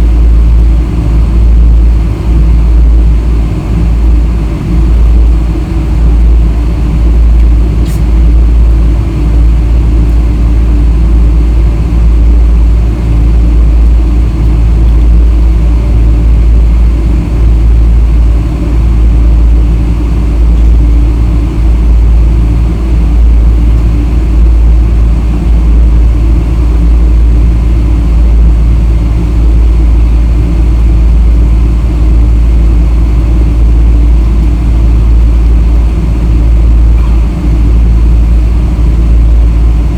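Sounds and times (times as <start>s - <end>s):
airliner engines rumbling while taxiing: 0.0s - 39.9s.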